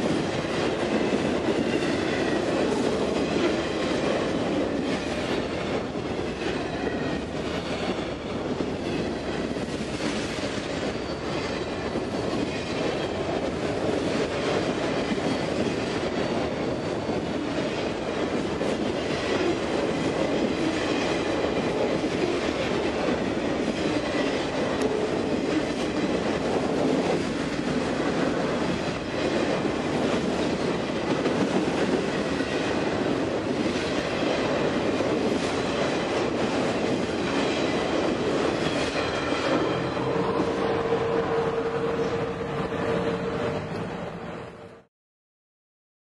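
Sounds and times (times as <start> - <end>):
train wheels clacking over rails: 0.0 - 43.9
rail cars rattling: 0.0 - 44.9.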